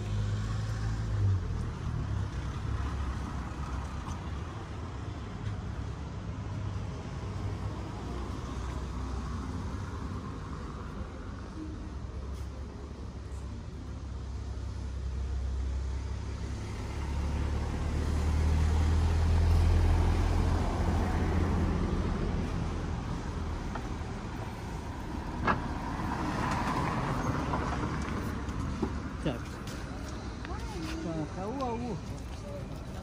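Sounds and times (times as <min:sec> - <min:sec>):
vehicle engine rumble passing: 0:00.0 - 0:33.0.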